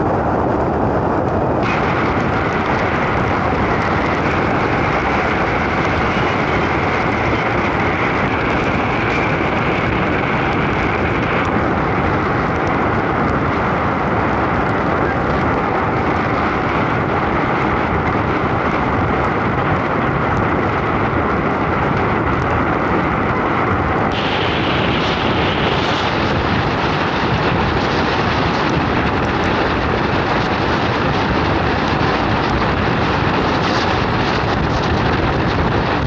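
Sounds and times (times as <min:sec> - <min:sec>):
wind rushing on microphone: 0:00.0 - 0:36.0.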